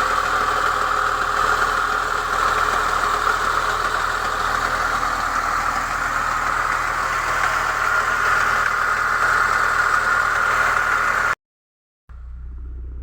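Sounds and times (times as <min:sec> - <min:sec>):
engine idling with clatter: 0:00.0 - 0:11.4, 0:12.1 - 0:13.0.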